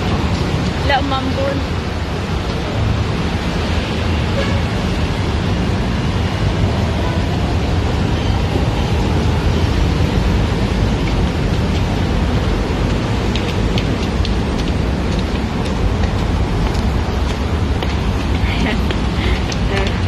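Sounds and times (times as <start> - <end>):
city road traffic roar: 0.0 - 20.0.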